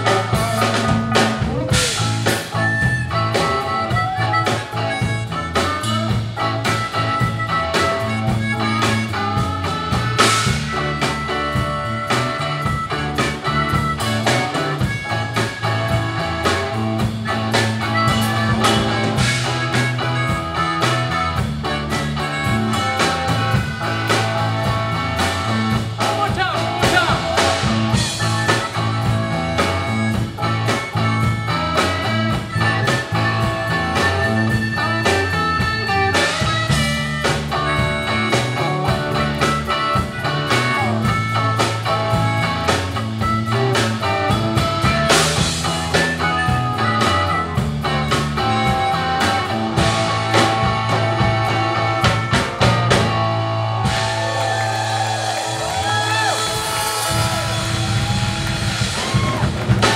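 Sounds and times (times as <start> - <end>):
blues-rock band playing: 0.0 - 59.9
harmonica: 0.0 - 59.9.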